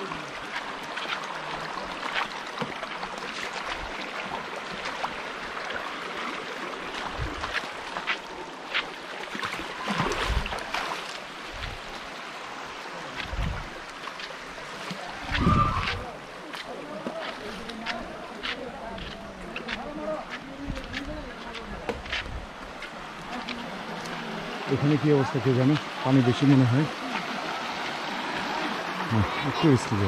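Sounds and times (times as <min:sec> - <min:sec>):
stream running over stones: 0:00.0 - 0:30.0.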